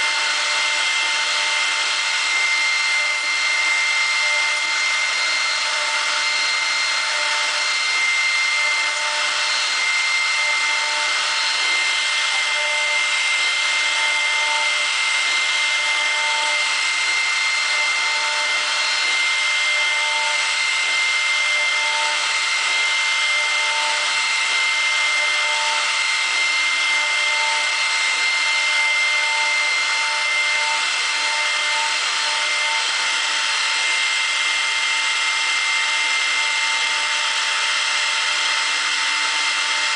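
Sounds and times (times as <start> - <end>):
cnc router milling plastic: 0.0 - 39.9.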